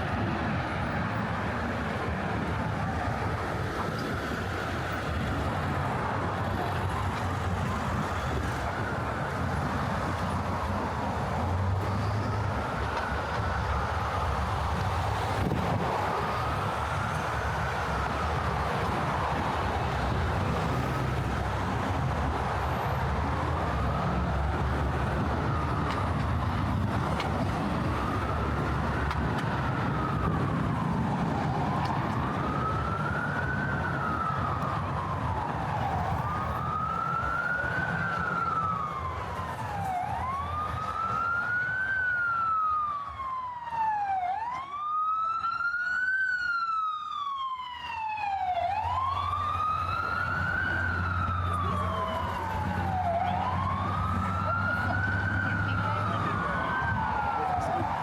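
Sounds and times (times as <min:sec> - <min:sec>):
low rumble of city traffic: 0:00.0 - 0:58.0
siren wailing: 0:01.7 - 0:58.0.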